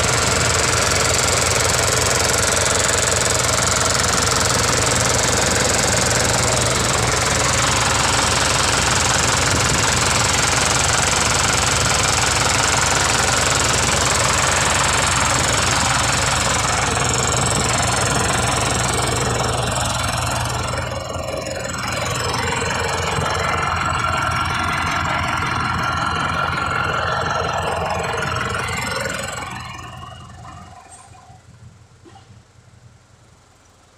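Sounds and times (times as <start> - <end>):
thin steady whine: 0.0 - 32.2
diesel engine knocking: 0.0 - 32.3.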